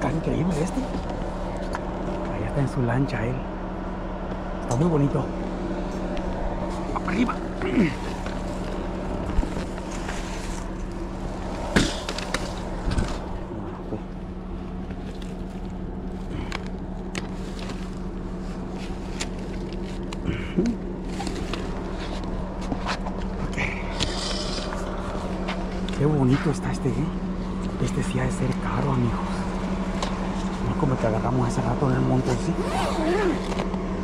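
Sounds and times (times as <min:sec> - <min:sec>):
motor vehicle drone: 0:00.0 - 0:34.0
road noise: 0:00.0 - 0:34.0.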